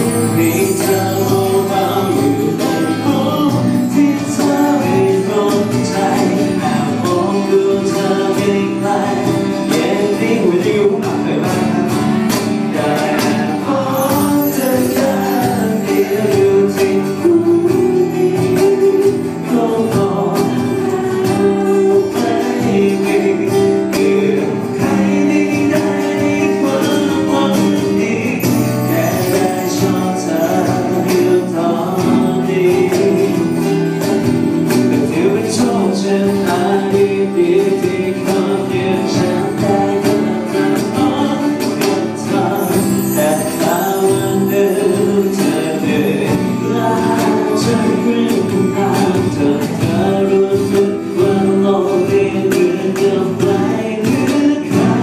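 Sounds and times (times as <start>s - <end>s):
electric bass guitar: 0.0s - 55.0s
man singing into microphone: 0.0s - 55.0s
strummed acoustic guitars: 0.0s - 55.0s.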